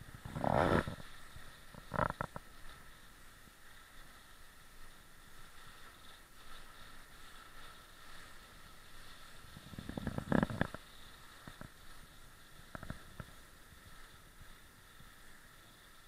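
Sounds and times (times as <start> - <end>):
sled sliding on snow: 0.0 - 16.0.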